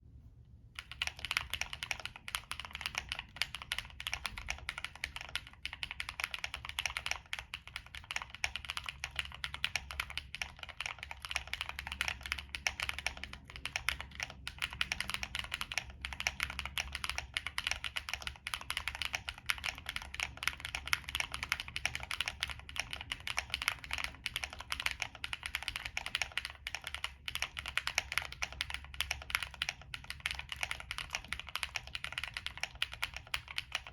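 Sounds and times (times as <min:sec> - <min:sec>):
fast mechanical keyboard typing: 0:00.8 - 0:33.9.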